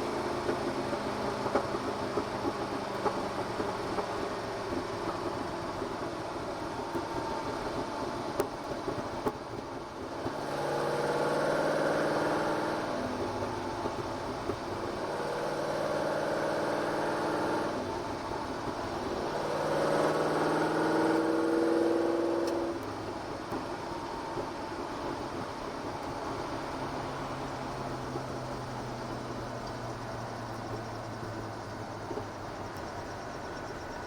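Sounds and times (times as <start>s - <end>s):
car engine drone from inside: 0.0s - 34.0s.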